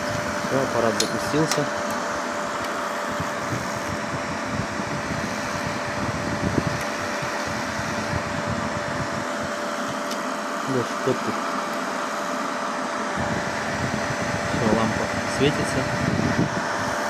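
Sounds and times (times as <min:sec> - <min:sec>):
cooling fan running: 0:00.0 - 0:17.0
faint steady whine: 0:00.0 - 0:17.0.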